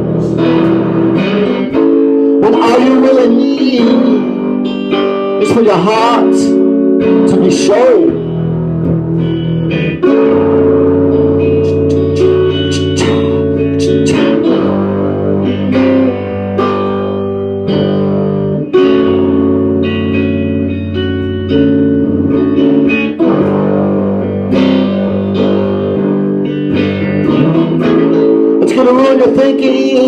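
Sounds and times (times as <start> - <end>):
blues guitar chords: 0.0 - 30.0.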